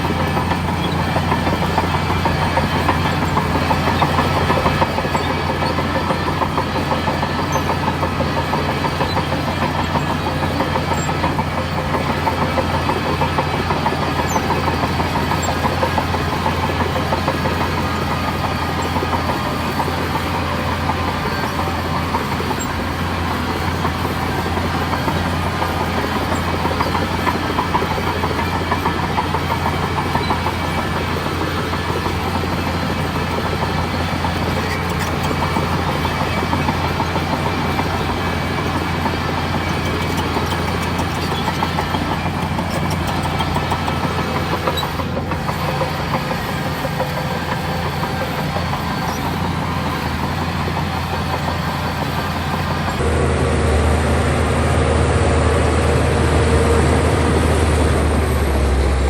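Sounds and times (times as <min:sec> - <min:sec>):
bulldozer diesel engine running: 0:00.0 - 0:59.0
crawler tracks clanking: 0:00.0 - 0:59.0.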